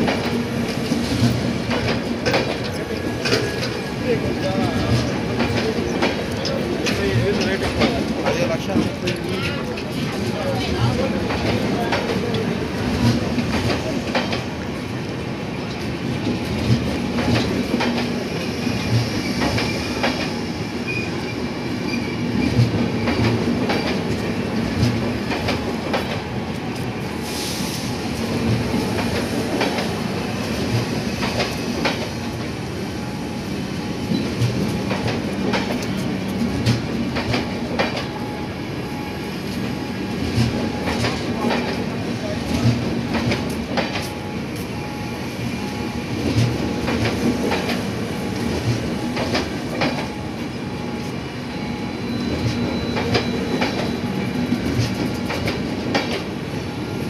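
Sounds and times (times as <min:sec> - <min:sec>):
train wheels clicking over rail joints: 0:00.0 - 0:32.7, 0:34.0 - 0:38.2, 0:39.5 - 0:44.8, 0:45.5 - 0:51.1, 0:52.2 - 0:56.6.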